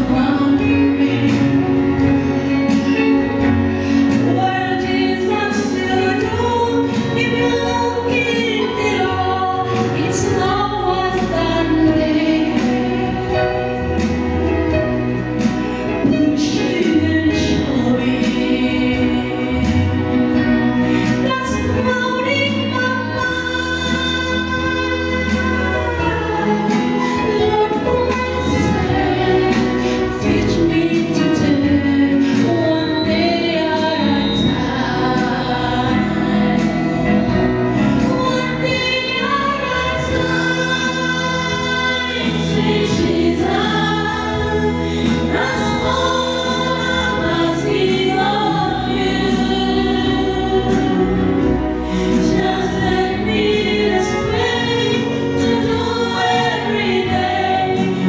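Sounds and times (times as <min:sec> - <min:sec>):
gospel choir singing: 0:00.0 - 0:58.0
keyboard: 0:00.0 - 0:58.0.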